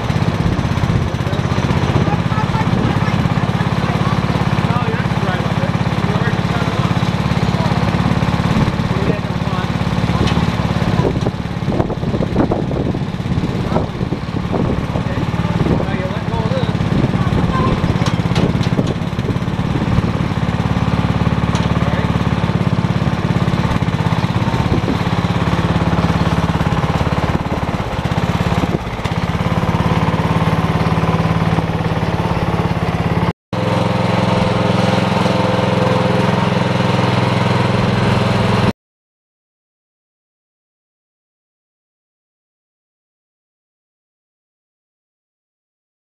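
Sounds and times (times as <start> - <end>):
lawn mower engine running: 0.0 - 38.7.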